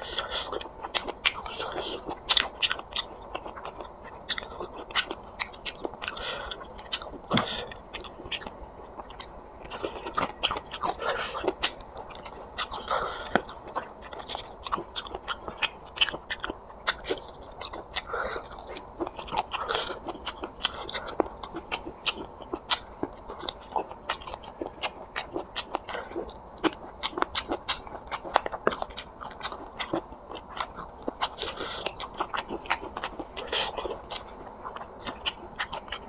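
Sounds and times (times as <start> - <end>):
wet chewing and lip smacking: 0.0 - 36.0.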